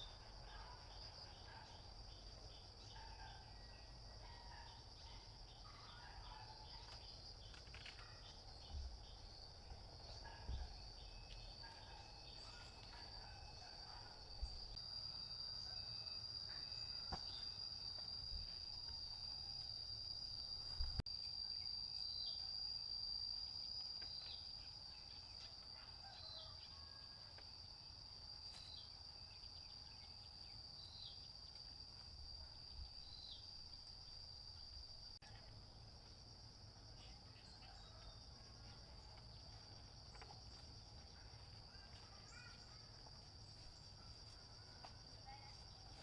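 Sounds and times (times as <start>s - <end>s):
insects chirring: 0.0s - 46.0s.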